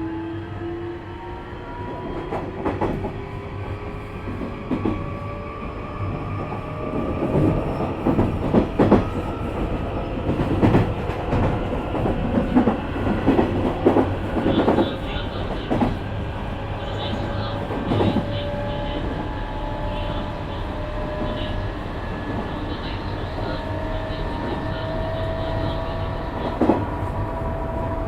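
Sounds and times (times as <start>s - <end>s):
steady train rumble: 0.0s - 28.0s.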